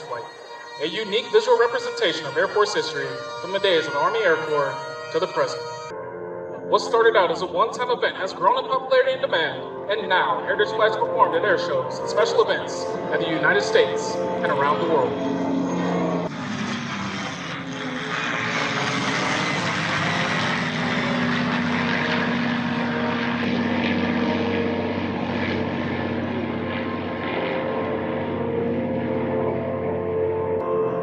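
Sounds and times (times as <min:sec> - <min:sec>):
aircraft engine drone: 0:00.0 - 0:31.0.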